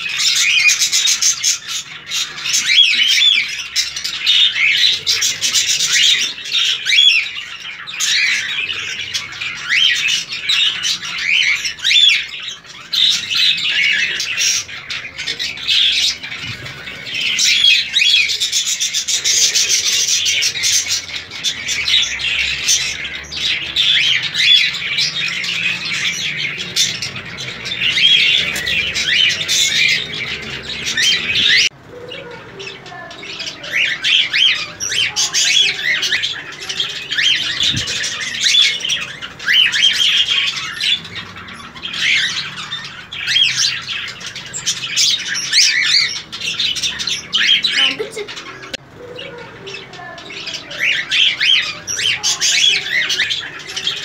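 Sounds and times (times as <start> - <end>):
cockatiels chirping and squawking: 0.0 - 54.0.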